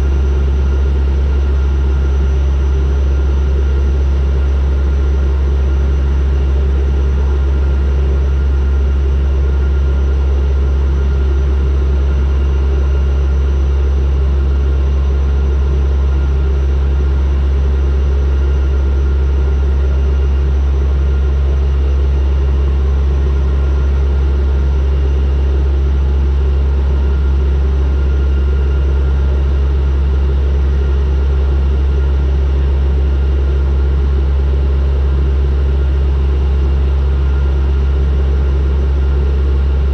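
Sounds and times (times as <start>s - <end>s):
airliner propeller drone: 0.0s - 39.9s.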